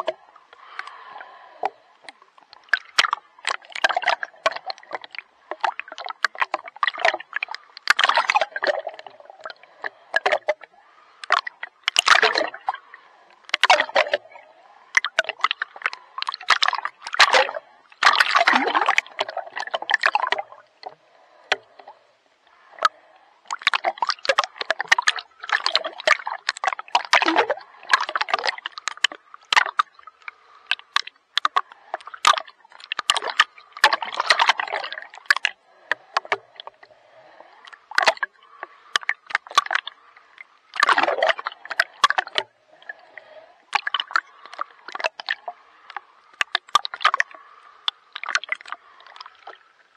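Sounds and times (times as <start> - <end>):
water splashing and sloshing: 0.0 - 49.9.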